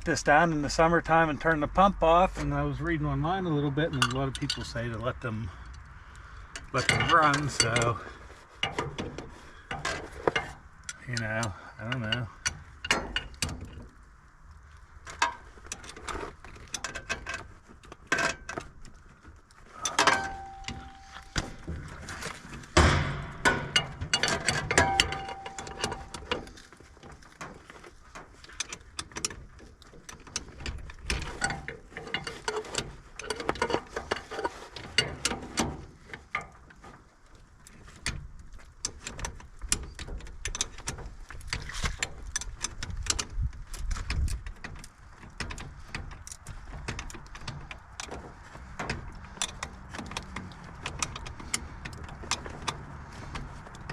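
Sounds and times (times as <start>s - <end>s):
hard objects clicking and clanking: 6.6s - 14.0s, 15.1s - 53.9s.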